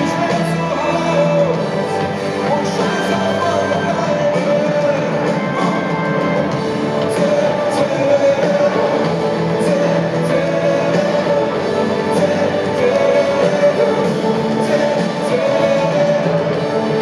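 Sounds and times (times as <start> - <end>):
drums with cymbal hits: 0.0 - 17.0
electric guitars: 0.0 - 17.0
person singing: 0.0 - 17.0.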